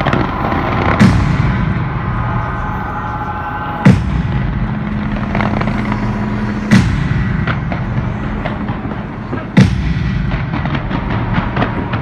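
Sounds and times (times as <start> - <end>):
fireworks pops and crackles: 0.0 - 1.8, 3.9 - 12.0
loud fireworks bangs: 0.0 - 12.0.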